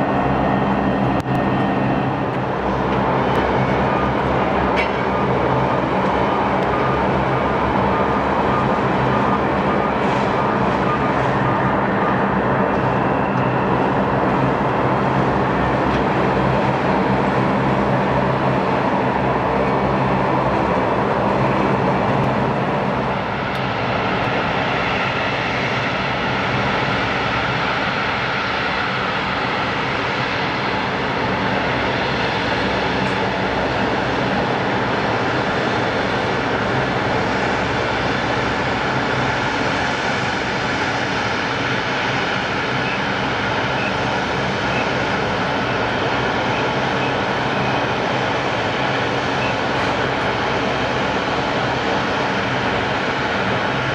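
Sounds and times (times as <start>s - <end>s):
jet engines rumble and whine: 0.0s - 53.9s.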